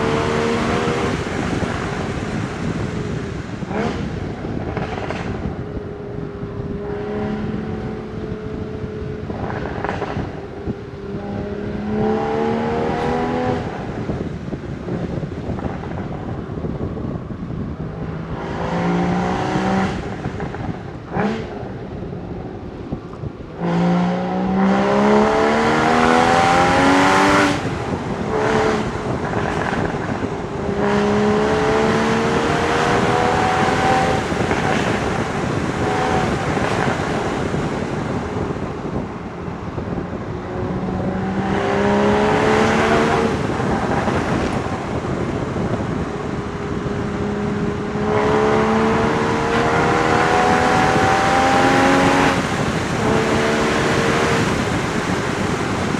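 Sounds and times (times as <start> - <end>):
car engine accelerating: 0.0 - 55.9
wind noise: 0.0 - 55.9.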